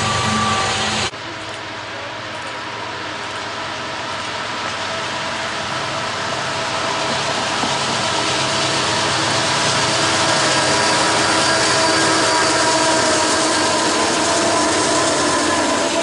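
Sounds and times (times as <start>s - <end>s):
diesel locomotive engine drone: 0.0s - 16.0s
train wheel noise: 0.0s - 16.0s.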